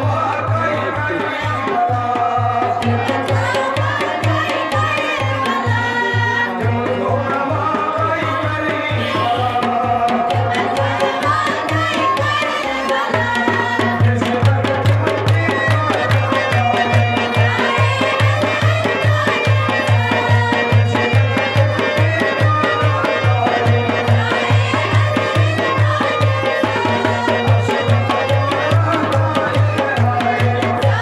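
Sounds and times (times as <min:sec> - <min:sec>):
man singing: 0:00.0 - 0:03.7, 0:04.6 - 0:11.2, 0:12.8 - 0:31.0
hand drums beating: 0:00.0 - 0:31.0.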